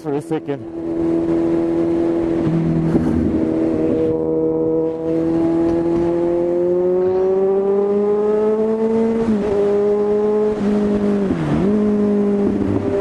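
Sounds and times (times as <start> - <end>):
motorcycle engine revving: 0.2 - 13.0.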